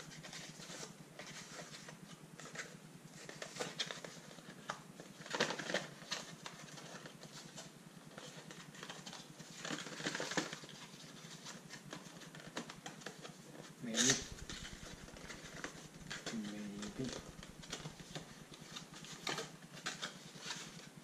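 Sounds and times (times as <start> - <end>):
cardboard scraping and rustling: 0.0 - 20.9.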